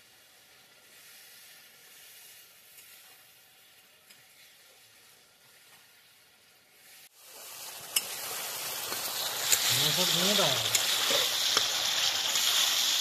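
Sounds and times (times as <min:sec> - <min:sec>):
faint sizzling in oil: 0:00.0 - 0:13.0.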